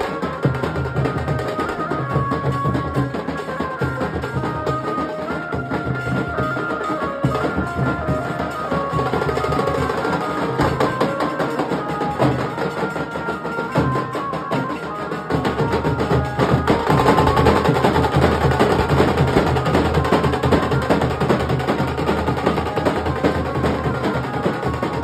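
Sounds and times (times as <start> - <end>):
drums beaten with sticks: 0.0 - 25.0.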